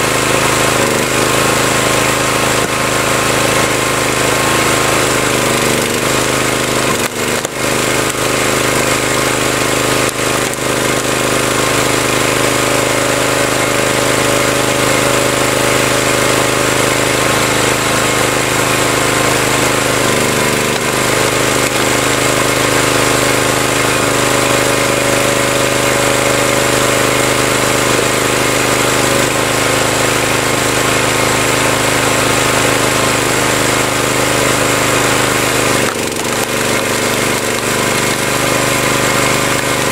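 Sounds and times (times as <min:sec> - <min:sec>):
wood splitter engine running: 0:00.0 - 0:39.9.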